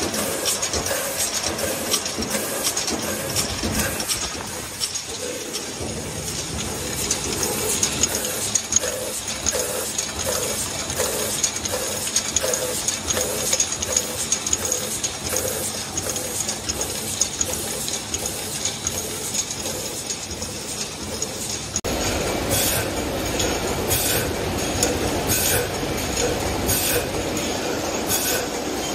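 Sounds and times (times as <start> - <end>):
production machinery running: 0.0 - 28.9
rapid metallic clicking: 0.0 - 28.9.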